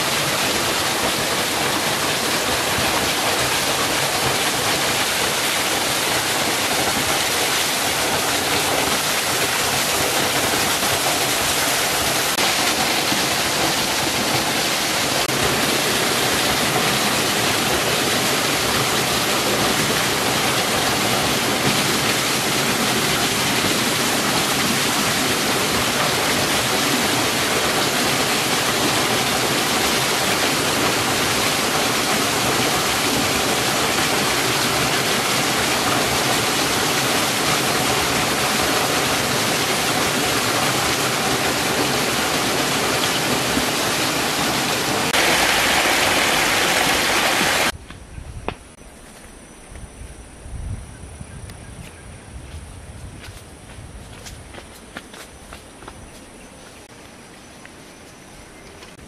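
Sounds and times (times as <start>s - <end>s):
waterfall splashing onto rocks: 0.0s - 47.8s.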